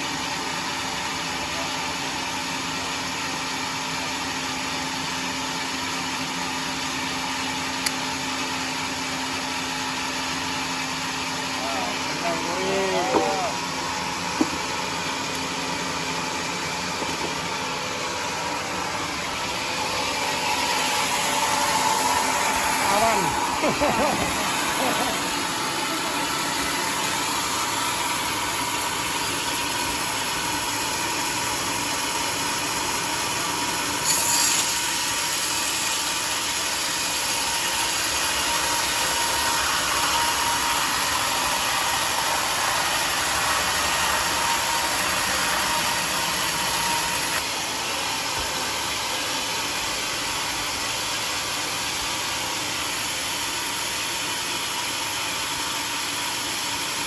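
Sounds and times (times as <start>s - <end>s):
sawmill running: 0.0s - 57.0s.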